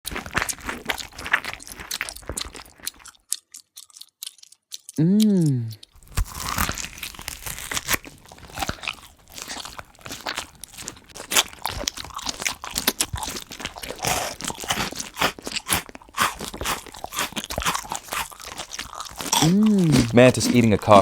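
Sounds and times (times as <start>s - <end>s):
insect chewing crisp crunches: 0.1s - 21.0s.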